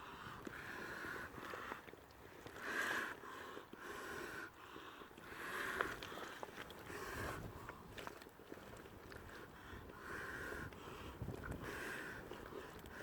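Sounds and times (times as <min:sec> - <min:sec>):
person breathing hard: 0:00.0 - 0:07.9, 0:09.2 - 0:13.0.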